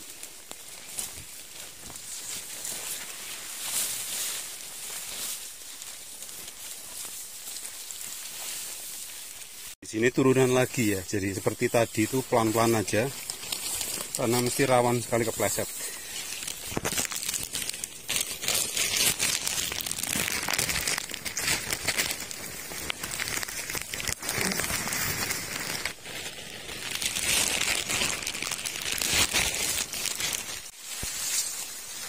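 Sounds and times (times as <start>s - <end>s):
footsteps crunching through leaves: 0.0s - 32.0s.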